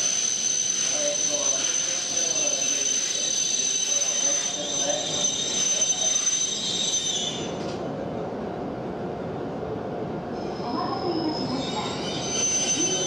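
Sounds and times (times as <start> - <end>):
train wheels squealing: 0.0 - 7.8, 10.3 - 13.0
train rolling rumble: 0.0 - 13.0.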